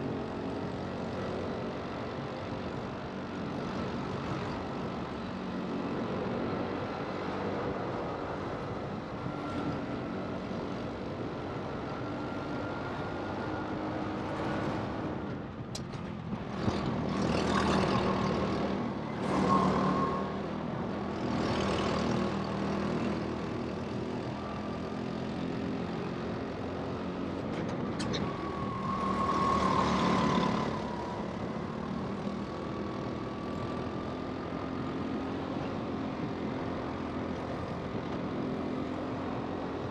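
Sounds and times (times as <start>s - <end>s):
go-kart motor drone: 0.0s - 39.9s.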